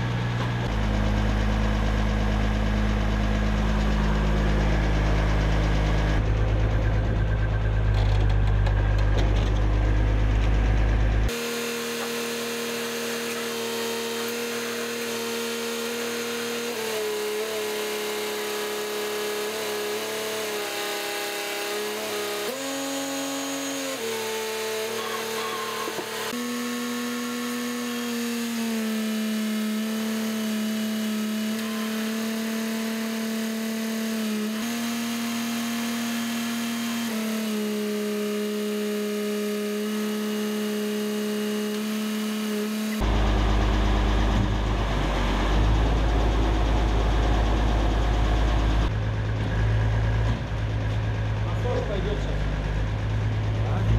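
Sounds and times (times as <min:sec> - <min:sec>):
hydraulics whining hum: 0:00.0 - 0:53.9.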